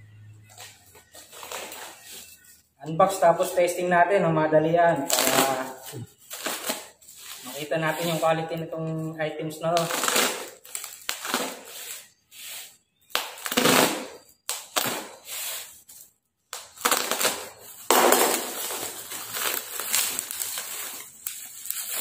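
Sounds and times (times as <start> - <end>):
plastic wrapping crinkling: 0.4 - 3.8, 5.0 - 8.7, 9.7 - 12.2, 13.1 - 22.0.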